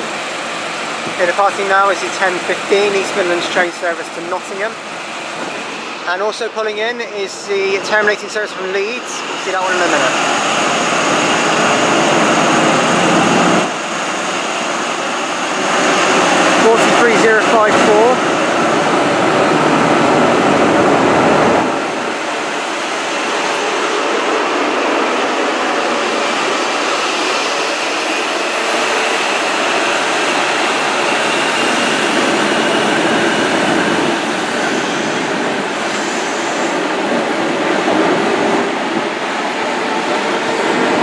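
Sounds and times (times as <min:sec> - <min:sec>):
diesel locomotive engine running hard: 0:00.0 - 0:41.0
train coaches rolling by: 0:00.0 - 0:41.0.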